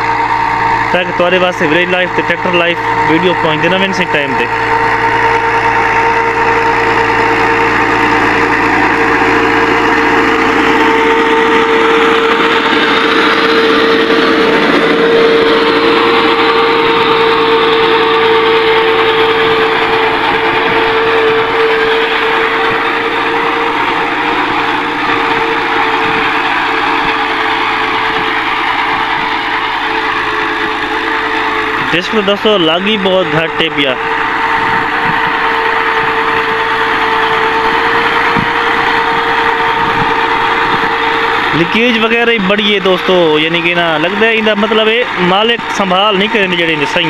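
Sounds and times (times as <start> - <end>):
steady hum: 0.0 - 47.0
tractor diesel engine running: 0.0 - 47.0.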